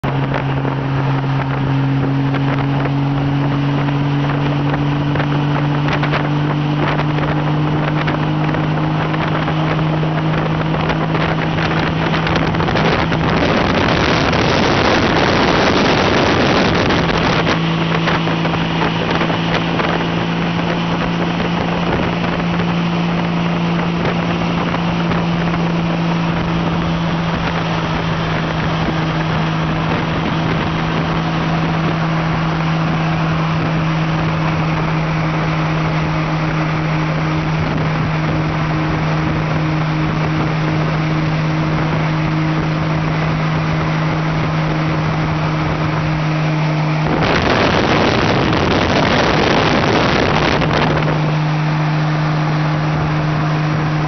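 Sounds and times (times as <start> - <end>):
motorcycle engine droning: 0.0 - 54.0
wind rushing on microphone: 0.0 - 54.0.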